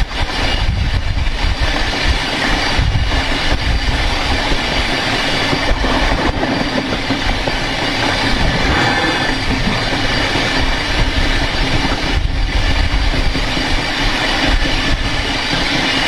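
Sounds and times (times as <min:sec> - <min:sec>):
train wheel rumbling on rail: 0:00.0 - 0:16.0.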